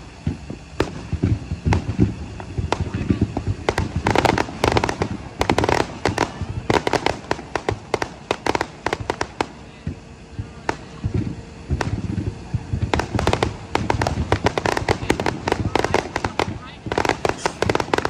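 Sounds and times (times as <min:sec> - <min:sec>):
fireworks cracking and popping: 0:00.0 - 0:18.0.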